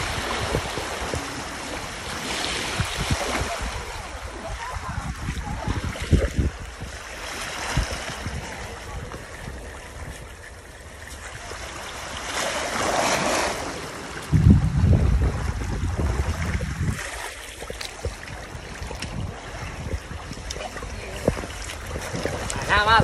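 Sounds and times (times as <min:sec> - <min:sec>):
seawater washing over sandy shore: 0:00.0 - 0:23.0
wind buffeting microphone: 0:00.0 - 0:23.0.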